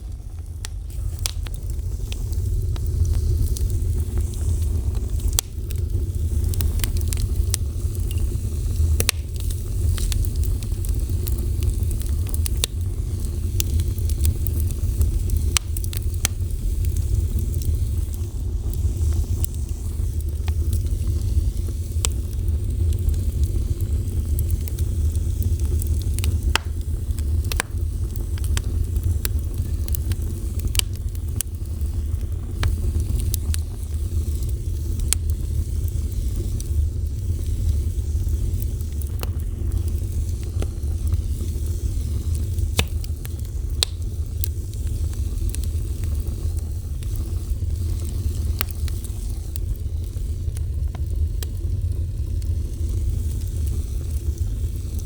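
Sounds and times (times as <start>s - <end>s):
sharp crackles and pops: 0.0s - 55.0s
wood fire burning: 0.0s - 55.0s.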